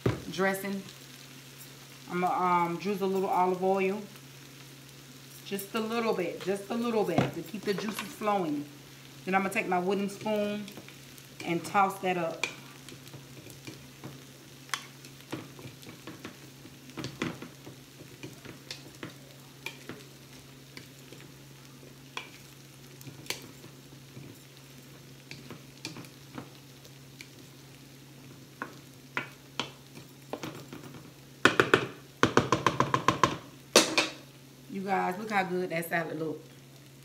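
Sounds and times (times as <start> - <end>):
meat sizzling on grill: 0.0 - 37.0.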